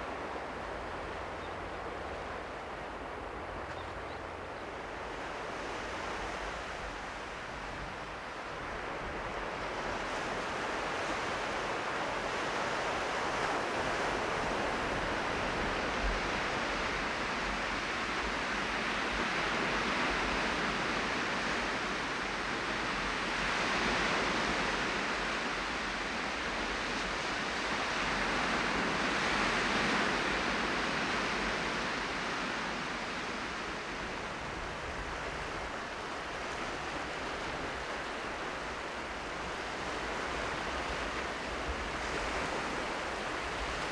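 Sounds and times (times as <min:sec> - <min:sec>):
surf washing on shore: 0:00.0 - 0:43.9.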